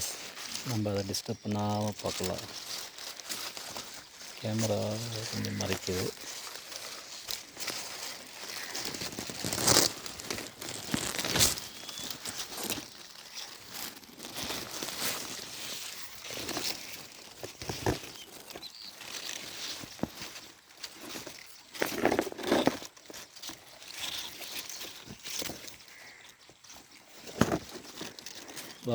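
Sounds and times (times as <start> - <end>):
dry leaves rustling and crackling: 0.0 - 28.9.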